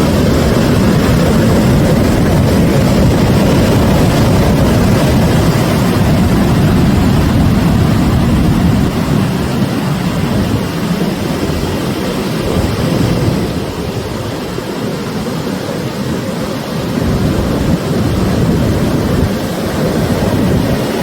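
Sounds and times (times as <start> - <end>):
sea waves breaking against pier: 0.0 - 21.0.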